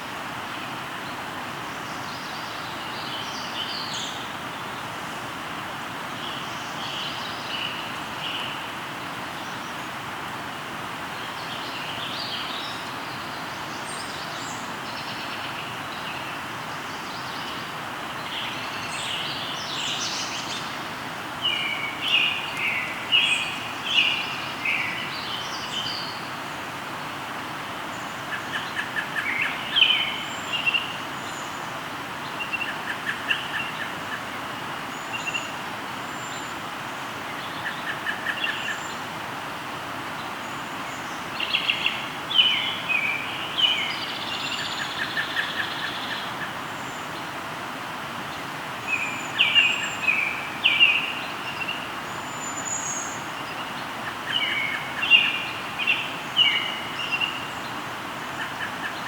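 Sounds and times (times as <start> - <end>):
river rushing: 0.0 - 59.0
songbirds singing: 0.0 - 59.0.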